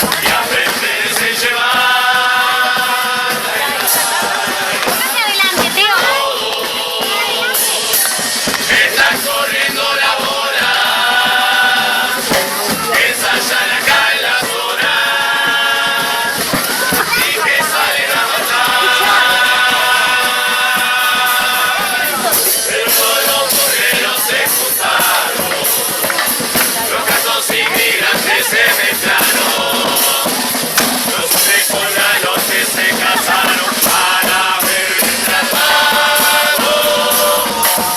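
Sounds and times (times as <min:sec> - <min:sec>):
sharp drum hits: 0:00.0 - 0:14.6, 0:18.3 - 0:37.9
carnival percussion: 0:00.0 - 0:37.9
chorus singing long held notes: 0:00.0 - 0:37.9.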